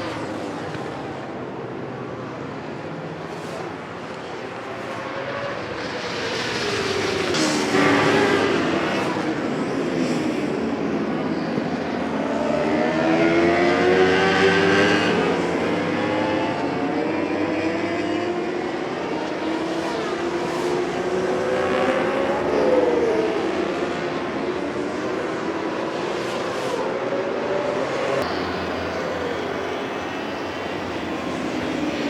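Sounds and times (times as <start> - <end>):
motorcycles revving and passing: 3.6 - 26.0, 26.7 - 32.0.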